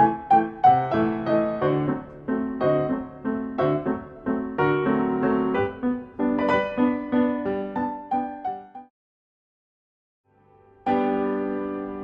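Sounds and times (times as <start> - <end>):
piano chords: 0.0 - 8.9, 10.4 - 12.0.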